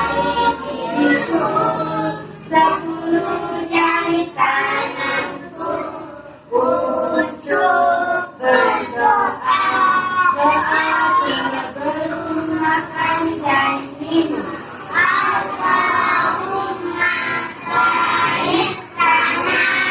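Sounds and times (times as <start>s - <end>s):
young children singing: 0.0s - 19.9s.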